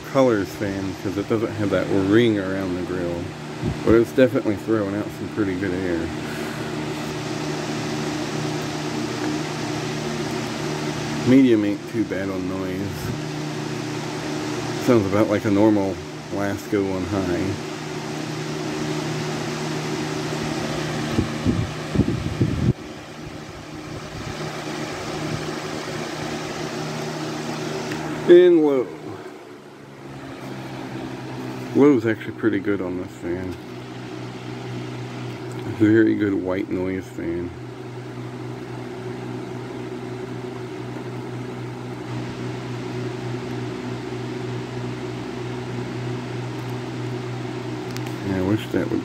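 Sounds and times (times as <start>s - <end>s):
box fan motor hum: 0.0s - 49.0s
rushing air from fan: 0.0s - 49.0s.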